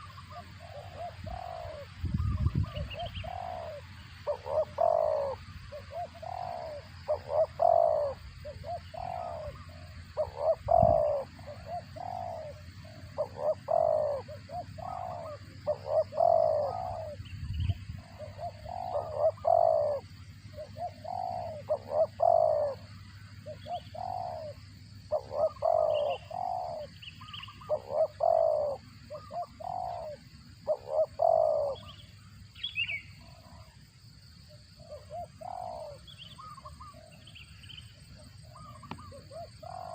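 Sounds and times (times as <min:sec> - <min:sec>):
dove cooing: 0:00.0 - 0:33.8, 0:34.8 - 0:39.9.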